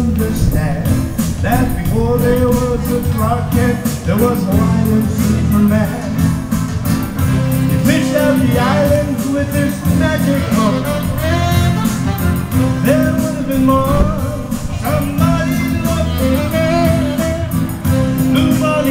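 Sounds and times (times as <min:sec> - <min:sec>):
man singing: 0:00.0 - 0:06.7, 0:07.6 - 0:18.9
strummed acoustic guitar: 0:00.0 - 0:18.9.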